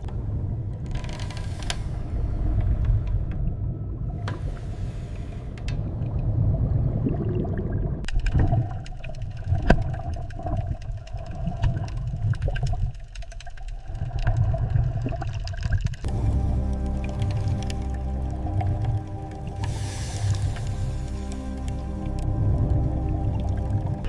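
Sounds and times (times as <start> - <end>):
low rumble: 0.0 - 13.1, 13.8 - 24.0
gurgling water: 0.0 - 24.0.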